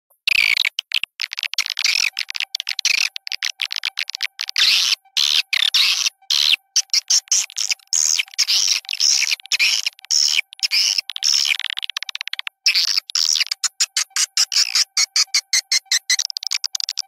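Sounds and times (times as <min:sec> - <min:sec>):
buzzy twittering bird chirps: 0:00.2 - 0:17.0.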